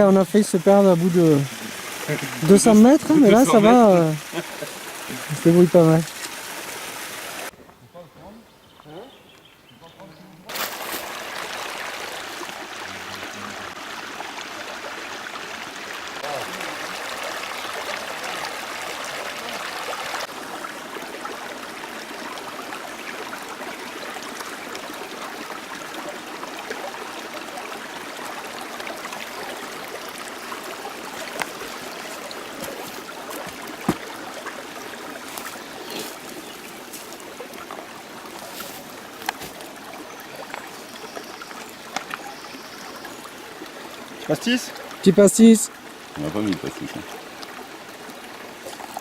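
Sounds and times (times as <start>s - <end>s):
stream water running: 0.0s - 49.0s.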